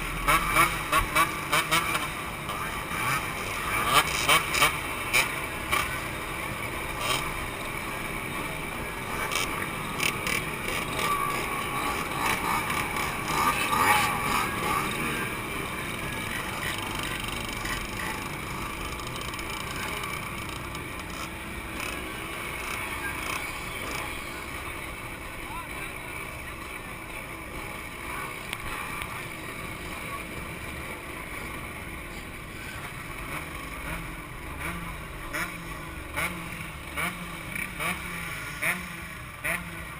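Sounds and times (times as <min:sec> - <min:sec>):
two-stroke motorcycle engines revving: 0:00.0 - 0:39.9.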